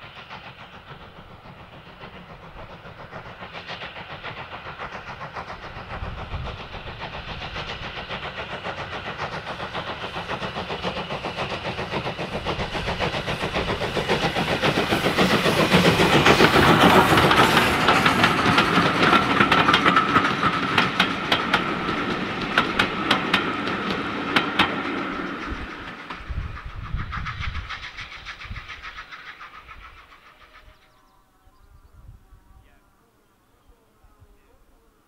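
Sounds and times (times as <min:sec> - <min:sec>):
steam locomotive exhaust beats: 0:00.0 - 0:32.4.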